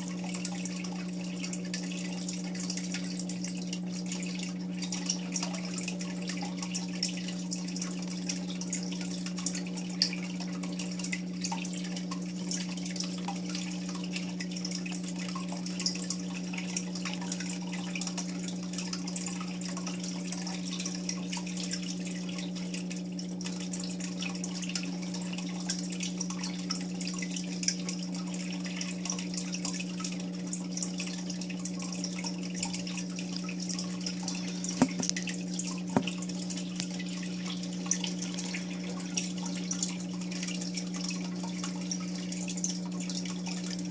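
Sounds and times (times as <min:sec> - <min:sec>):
aquarium water bubbling: 0:00.0 - 0:43.9
low electrical hum: 0:00.0 - 0:43.9
water dripping ticks: 0:00.0 - 0:43.9.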